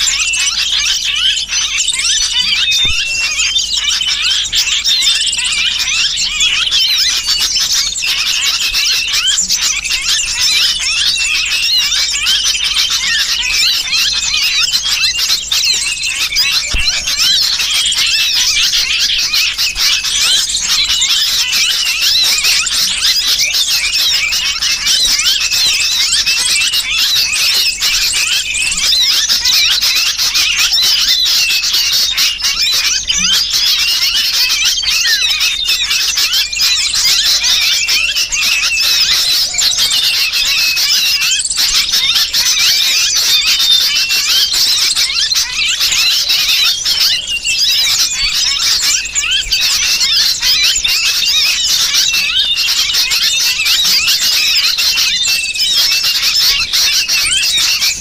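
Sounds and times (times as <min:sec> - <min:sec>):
bird distress calls: 0:00.0 - 0:58.0
small birds chirping: 0:00.0 - 0:58.0.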